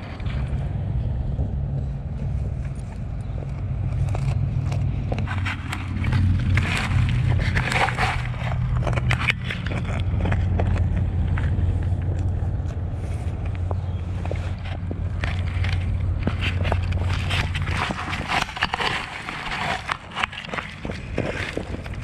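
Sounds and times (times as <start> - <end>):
dog crunching a chew: 0.0 - 22.0
steady low rumble: 0.0 - 22.0.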